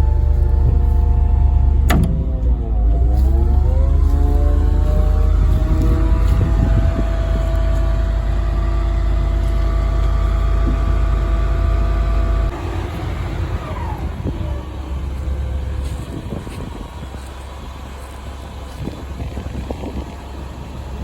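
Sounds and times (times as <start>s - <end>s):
hydraulic system whine: 0.0s - 21.0s
truck engine running: 0.0s - 21.0s.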